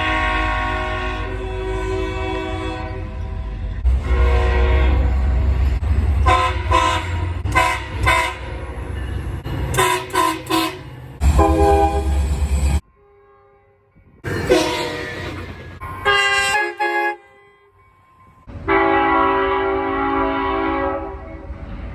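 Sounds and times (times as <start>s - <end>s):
train horn blasts: 0.0s - 5.5s, 6.2s - 8.7s, 9.7s - 12.2s, 12.8s - 17.8s, 18.5s - 21.5s.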